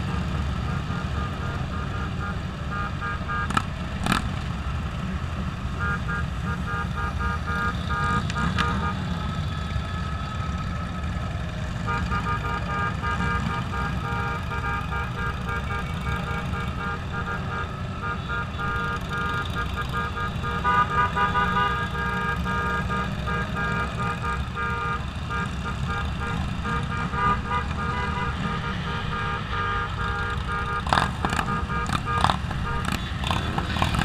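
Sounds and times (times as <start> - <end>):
motorcycle engine rumble: 0.0 - 34.0
wind: 0.0 - 34.0
vehicle horns honking: 0.1 - 4.2, 5.7 - 34.0.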